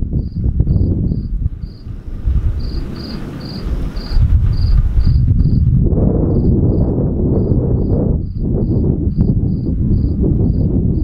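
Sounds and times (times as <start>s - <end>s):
cricket chirping: 0.0s - 5.7s, 6.3s - 11.0s
loud low rumble: 0.0s - 11.0s.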